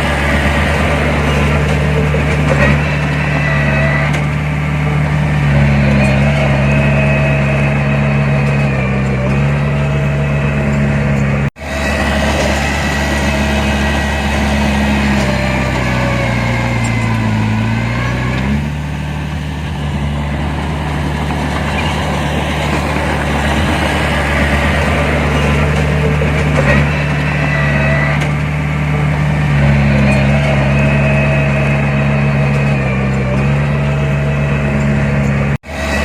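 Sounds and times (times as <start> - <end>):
heavy diesel machine engine running: 0.0 - 36.0.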